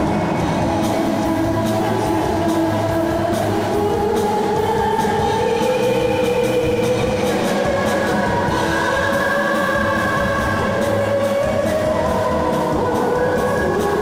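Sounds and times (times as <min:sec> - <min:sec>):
live pop-rock band playing: 0:00.0 - 0:14.0.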